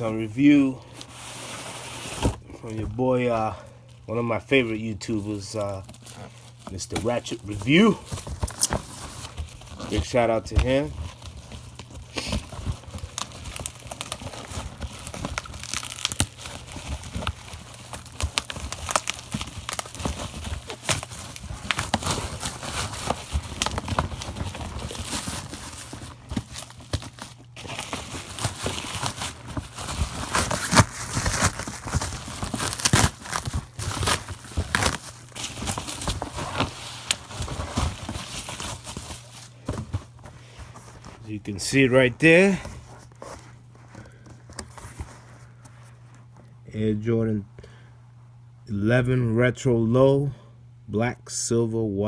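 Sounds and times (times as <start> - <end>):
packaging crinkling and rustling: 0.0 - 46.6.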